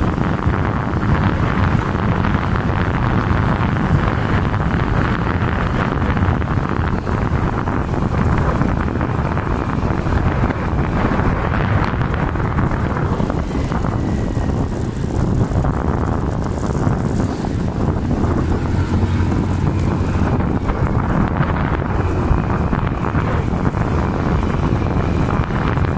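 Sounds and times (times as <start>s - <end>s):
vehicle and road rumble: 0.0s - 25.9s
wind rush on microphone: 0.0s - 25.9s.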